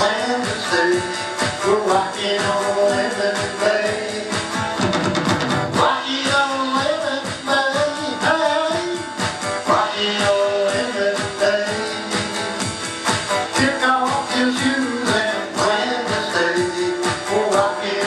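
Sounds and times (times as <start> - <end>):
rock song with guitar and drums: 0.0 - 18.0.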